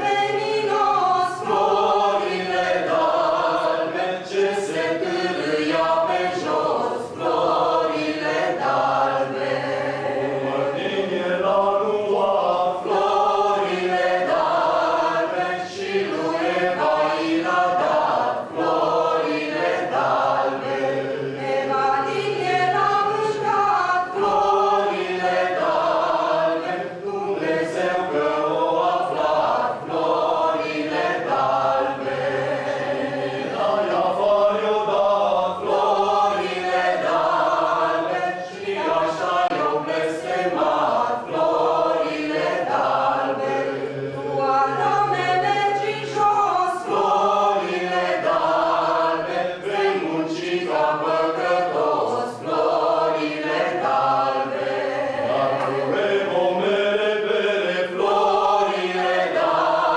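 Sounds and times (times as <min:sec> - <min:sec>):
women singing carol together: 0:00.0 - 0:59.9.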